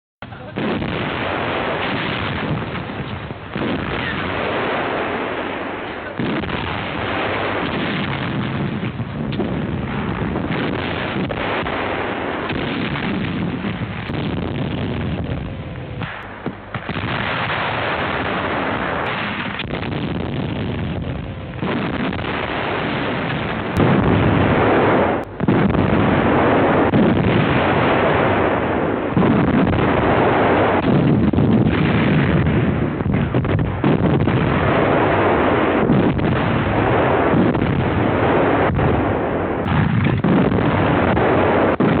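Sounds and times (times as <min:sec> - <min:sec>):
artillery firing: 0:00.5 - 0:42.0.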